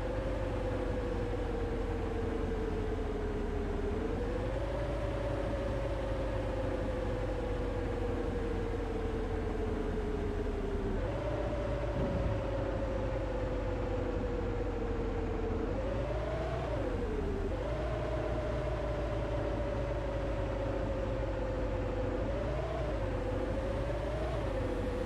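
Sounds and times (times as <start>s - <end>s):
bus engine rumble: 0.0s - 17.6s, 18.5s - 25.0s
bus whine: 0.0s - 25.0s.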